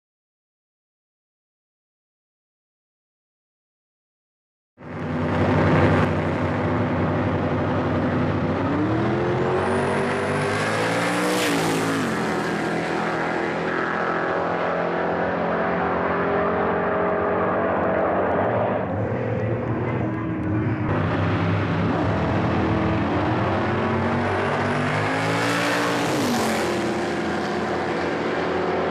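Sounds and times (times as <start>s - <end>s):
drag car engines at full throttle: 4.8s - 28.9s.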